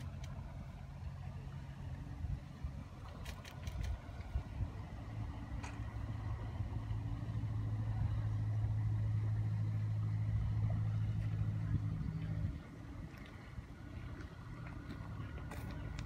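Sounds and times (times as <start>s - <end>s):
distant engine humming: 0.0s - 16.0s.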